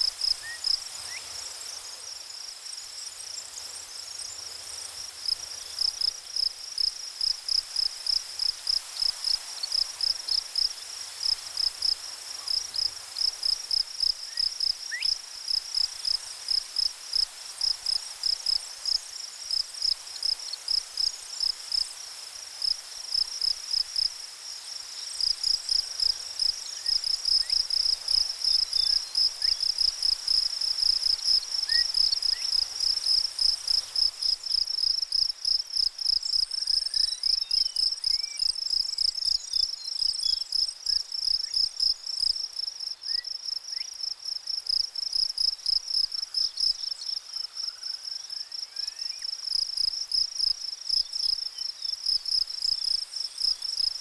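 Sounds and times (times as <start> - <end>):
cricket chirping: 0.0 - 54.0
faint background hiss: 0.0 - 54.0.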